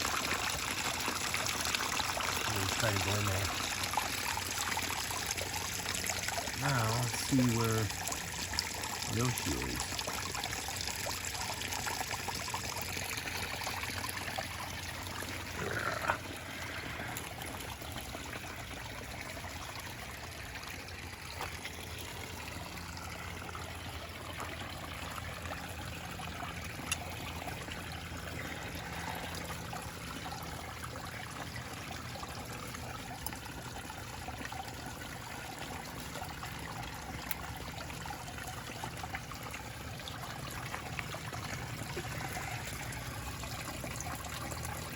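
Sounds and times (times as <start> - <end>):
small waterfall trickling: 0.0 - 44.9.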